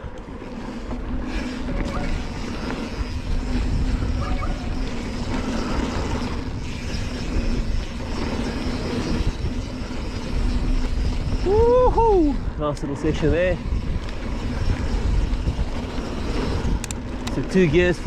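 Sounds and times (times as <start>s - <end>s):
bike tyres on dirt: 0.0s - 18.0s
wind rushing over microphone: 0.0s - 18.0s.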